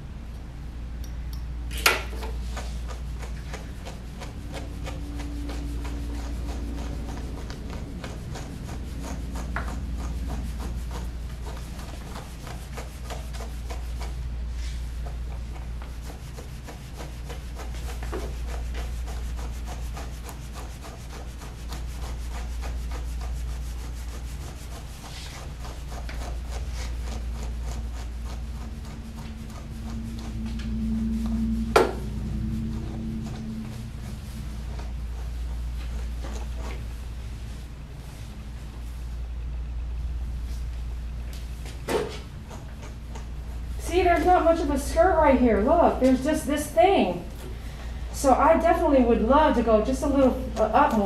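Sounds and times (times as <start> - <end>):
low steady hum: 0.0 - 51.0
comb rasping through matted fur: 2.1 - 39.2, 40.4 - 51.0.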